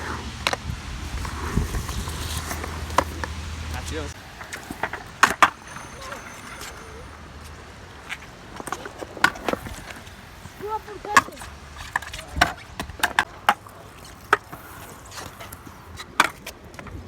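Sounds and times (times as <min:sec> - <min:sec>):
skateboard clacks on pavement: 0:00.0 - 0:17.0.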